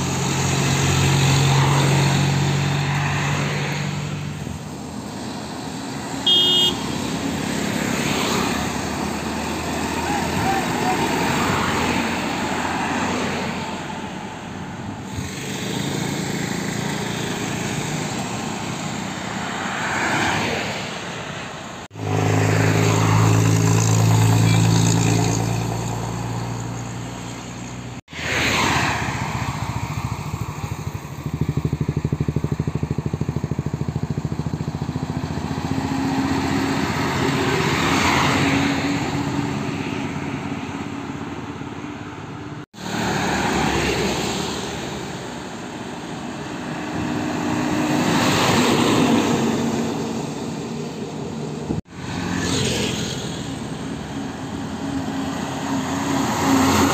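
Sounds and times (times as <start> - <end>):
highway traffic passing: 0.0 - 56.9.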